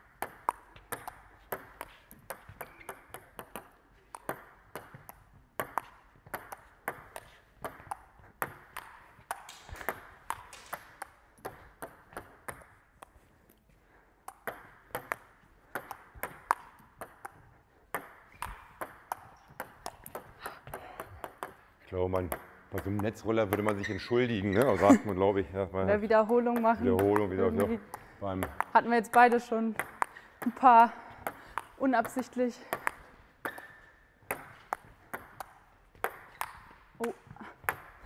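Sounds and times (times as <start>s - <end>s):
table tennis ball clicking: 0.2s - 13.2s, 14.2s - 23.9s, 26.3s - 38.0s.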